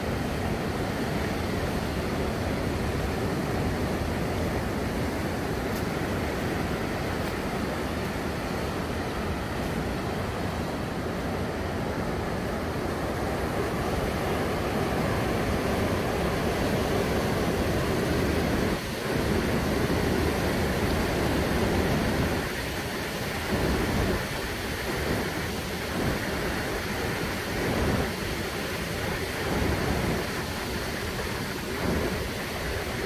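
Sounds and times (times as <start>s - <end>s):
storm surf breaking on beach: 0.0s - 33.0s.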